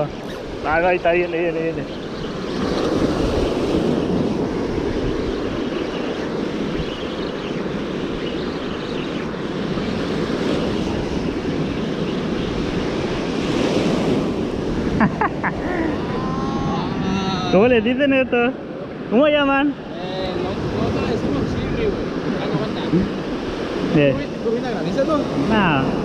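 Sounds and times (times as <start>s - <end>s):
wind buffeting microphone: 0.0s - 19.2s, 19.8s - 26.0s
surf washing up beach: 0.0s - 26.0s.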